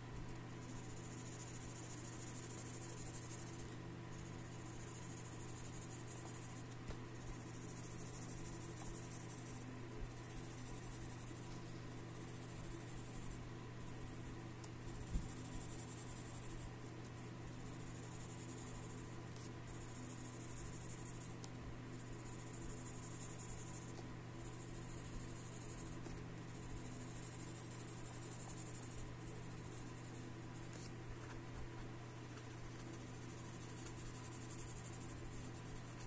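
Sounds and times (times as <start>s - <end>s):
pencil shading on paper: 0.6s - 36.0s.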